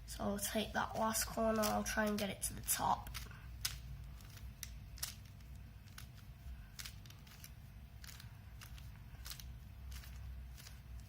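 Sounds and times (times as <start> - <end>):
puzzle cube clicking: 0.9 - 11.0.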